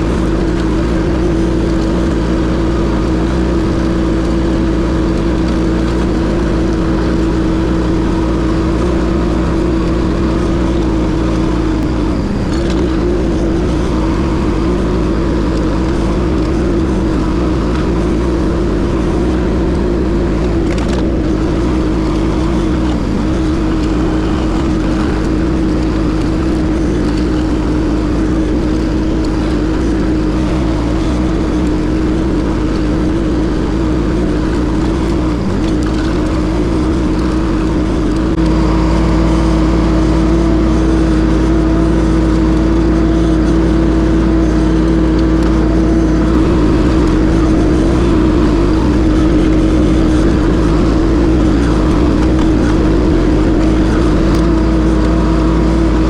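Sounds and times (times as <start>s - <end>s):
skid steer engine at high throttle: 0.0s - 56.0s.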